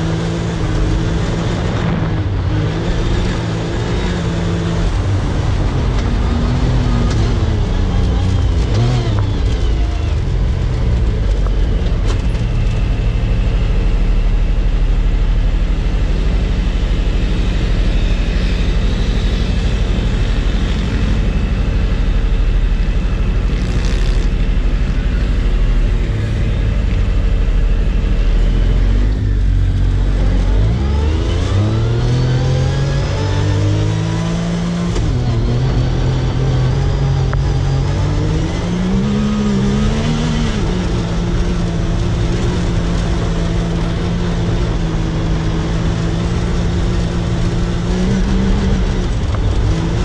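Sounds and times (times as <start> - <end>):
off-road vehicle engine: 0.0 - 50.0.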